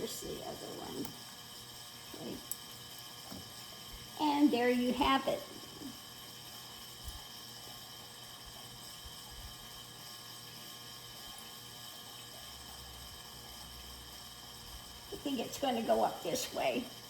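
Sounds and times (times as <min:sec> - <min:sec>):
room tone hiss: 0:00.0 - 0:17.0.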